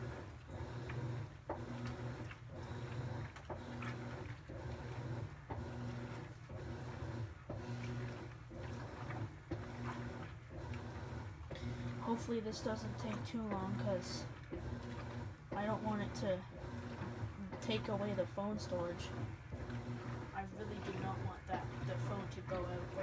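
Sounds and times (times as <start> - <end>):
washing machine motor humming: 0.0 - 23.0
washing machine knocking: 3.4 - 23.0.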